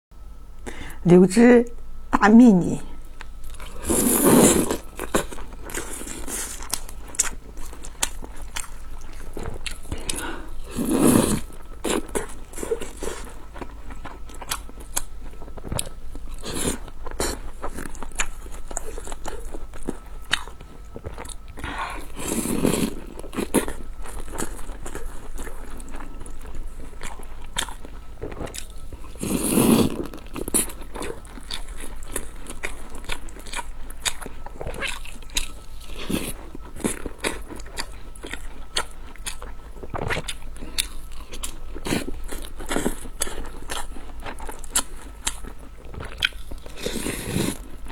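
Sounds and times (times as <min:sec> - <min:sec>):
crunchy chewing: 0:03.0 - 0:47.9.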